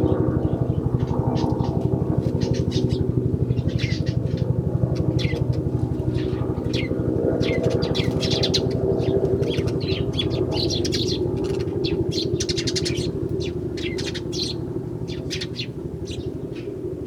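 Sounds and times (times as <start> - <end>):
sparrows chirping: 0.0 - 16.9.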